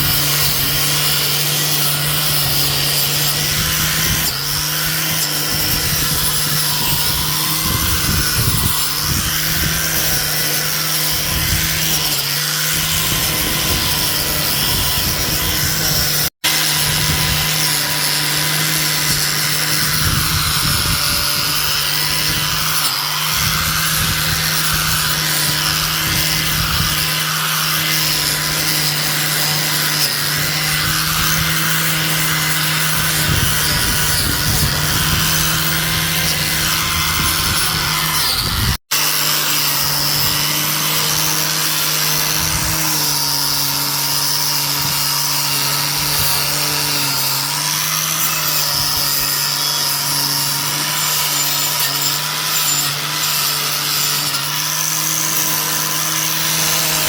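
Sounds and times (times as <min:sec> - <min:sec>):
power tool running: 0:00.0 - 0:57.0.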